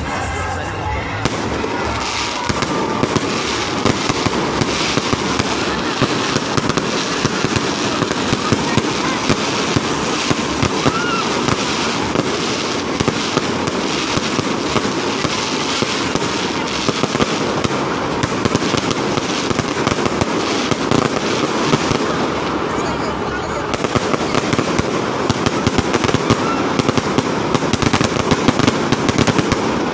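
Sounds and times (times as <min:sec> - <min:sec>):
fireworks crackling: 0:00.0 - 0:29.9.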